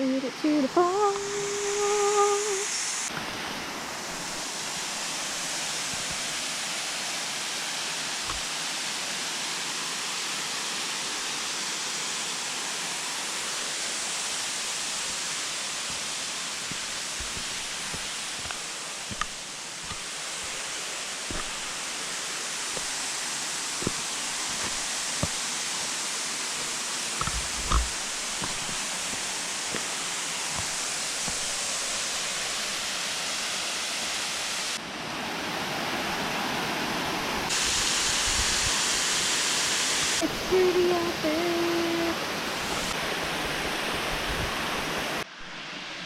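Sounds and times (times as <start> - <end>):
waterfall rushing: 0.7 - 45.2.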